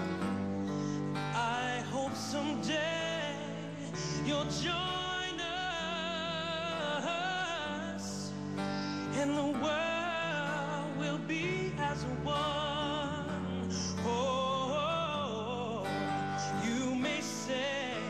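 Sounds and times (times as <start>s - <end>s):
person singing with vibrato: 0.0s - 18.0s.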